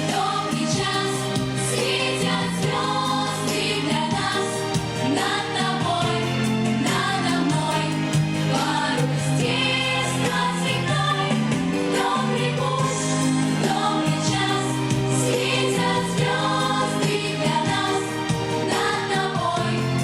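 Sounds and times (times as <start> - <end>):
children's song with singing: 0.0 - 20.0.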